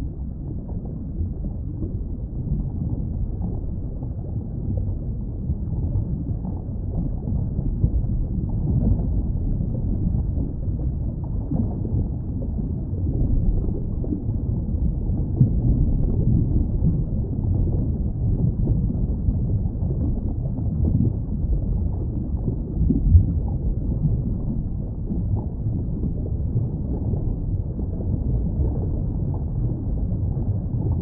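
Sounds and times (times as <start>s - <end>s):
muffled underwater rumble: 0.0s - 31.0s.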